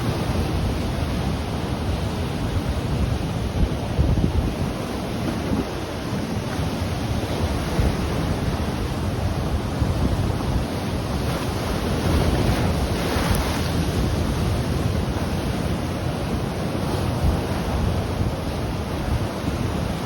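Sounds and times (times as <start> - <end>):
ocean surf rushing: 0.0 - 20.0
wind buffeting microphone: 0.0 - 20.0.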